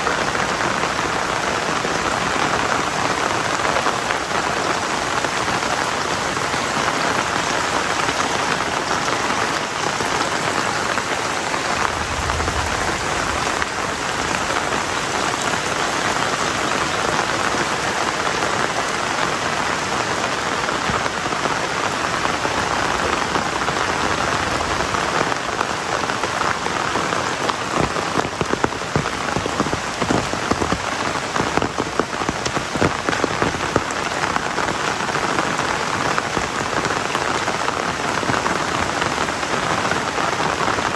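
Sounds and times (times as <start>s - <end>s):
heavy rain hissing: 0.0s - 40.9s
rain drop impacts: 0.1s - 37.2s.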